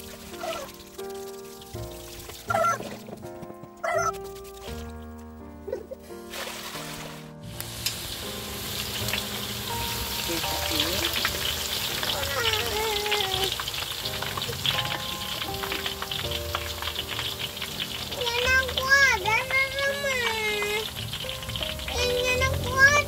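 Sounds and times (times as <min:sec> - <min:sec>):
chips deep-frying in oil: 0:00.0 - 0:05.2, 0:06.3 - 0:23.0.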